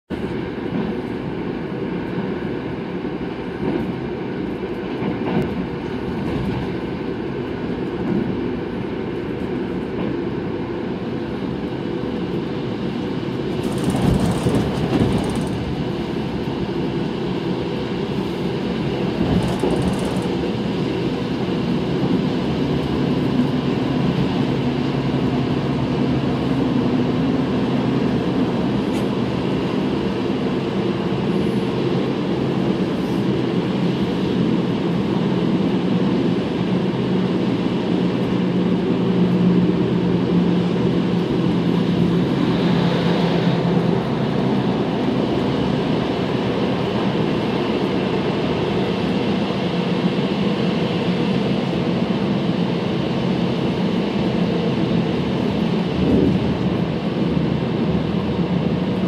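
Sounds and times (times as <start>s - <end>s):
low rumble of train wheels: 0.1s - 59.0s.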